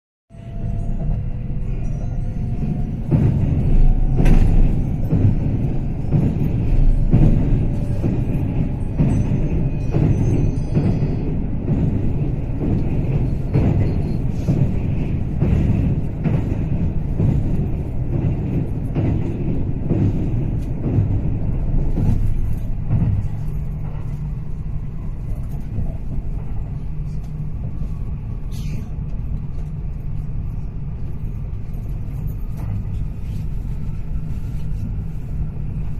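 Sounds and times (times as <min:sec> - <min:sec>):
train rumbling on rails: 0:00.3 - 0:35.9.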